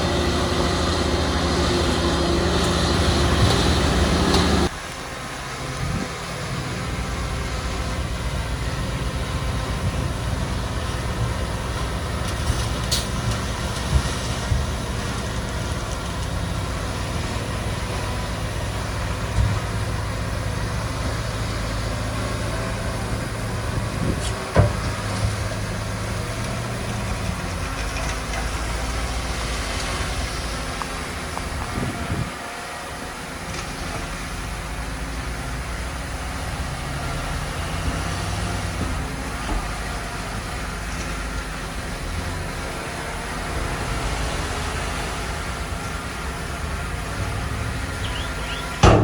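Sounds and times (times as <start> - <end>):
heavy diesel machinery running: 0.0 - 49.0.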